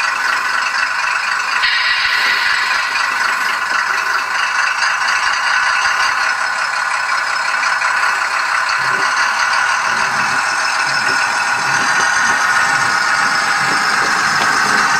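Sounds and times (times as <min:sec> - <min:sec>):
model locomotive diesel engine sound: 0:00.0 - 0:14.9.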